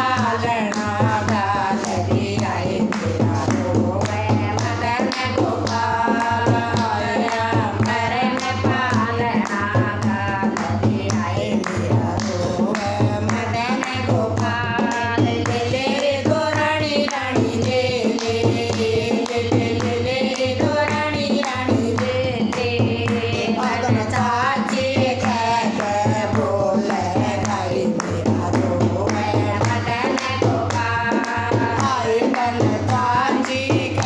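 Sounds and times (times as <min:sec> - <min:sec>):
hand clapping: 0:00.0 - 0:34.0
hand drum rhythm: 0:00.0 - 0:34.0
women singing together: 0:00.0 - 0:34.0.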